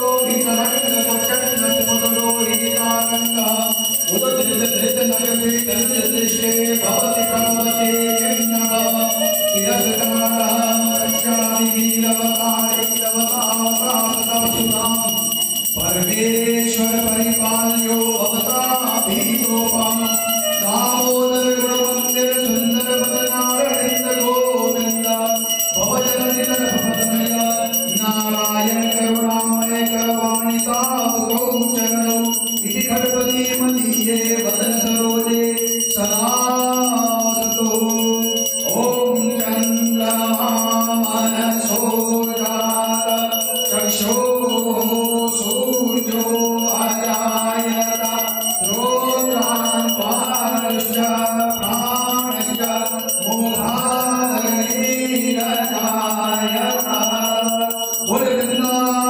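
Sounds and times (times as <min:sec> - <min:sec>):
bells jingling and ringing: 0:00.0 - 0:59.0.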